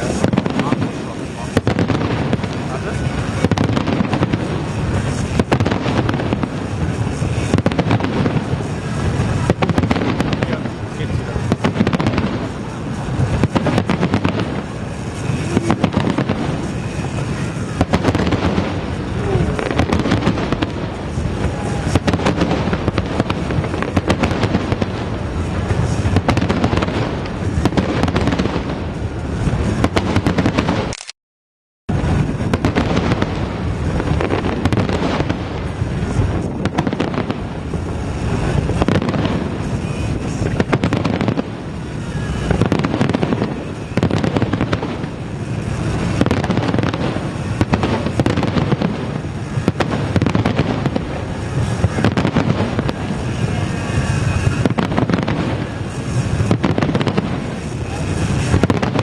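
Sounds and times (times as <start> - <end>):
fireworks bursting and booming: 0.0 - 31.1, 31.9 - 59.0.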